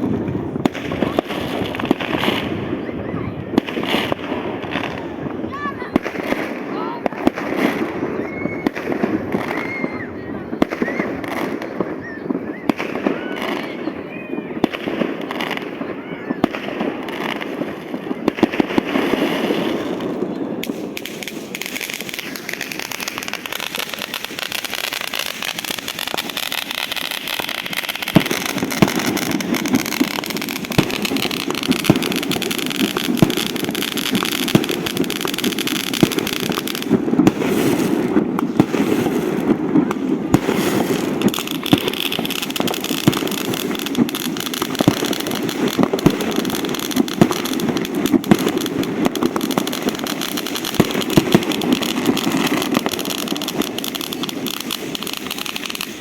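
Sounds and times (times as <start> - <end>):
fireworks crackling and banging: 0.0 - 56.0
sharp firework reports: 0.0 - 56.0.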